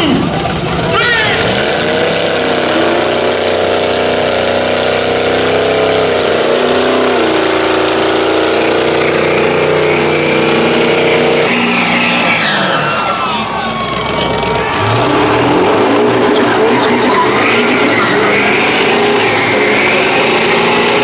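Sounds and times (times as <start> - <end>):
truck engine revving high: 0.0 - 21.0.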